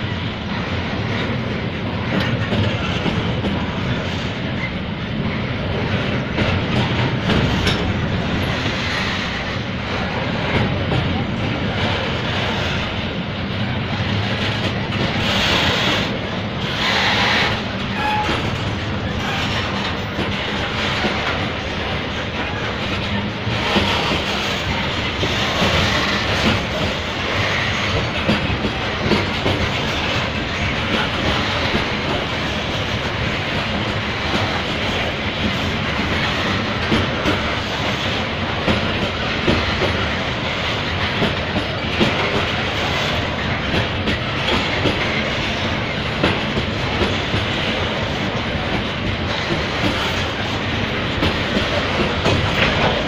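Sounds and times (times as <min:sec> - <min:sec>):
steel wheels rumbling on rails: 0:00.0 - 0:53.0
wheels clacking over track joints: 0:00.0 - 0:53.0.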